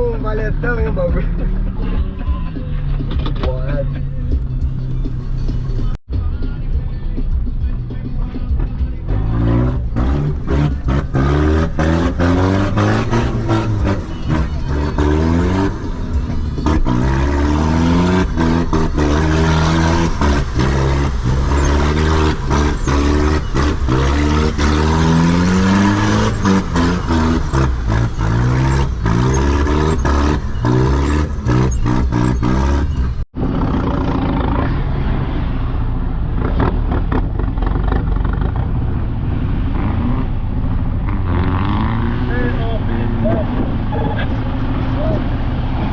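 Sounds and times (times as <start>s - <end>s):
off-road vehicle engine revving: 8.5s - 45.9s.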